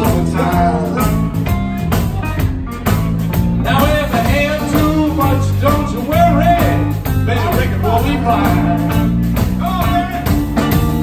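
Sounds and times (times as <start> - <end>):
bending lead guitar melody: 0.0 - 11.0
live blues band playing: 0.0 - 11.0.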